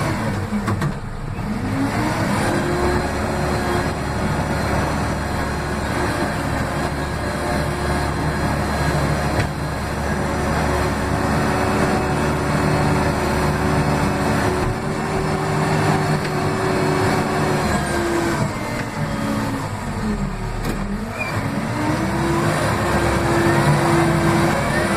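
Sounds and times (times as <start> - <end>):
diesel engine running hard: 0.0 - 24.9.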